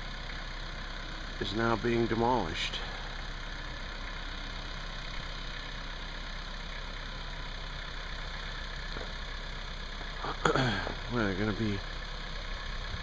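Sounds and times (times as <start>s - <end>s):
machine engine idling: 0.0s - 13.0s.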